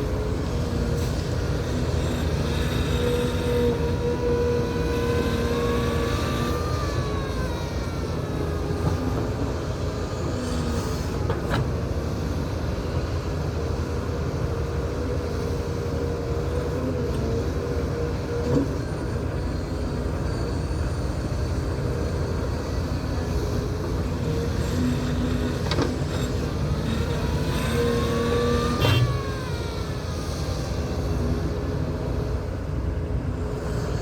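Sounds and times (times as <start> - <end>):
large diesel engine running: 0.0 - 34.0.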